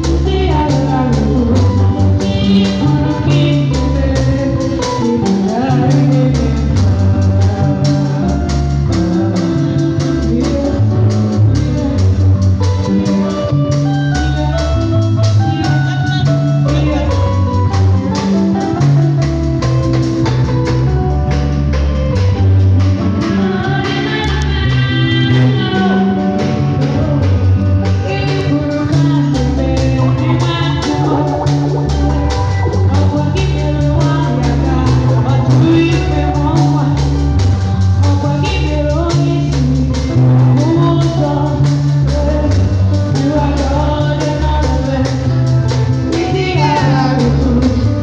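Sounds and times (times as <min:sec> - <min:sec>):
person singing into microphone: 0:00.0 - 0:19.0, 0:23.2 - 0:48.0
bass guitar: 0:00.0 - 0:48.0
drum kit: 0:00.0 - 0:48.0
electronic keyboard: 0:00.0 - 0:48.0.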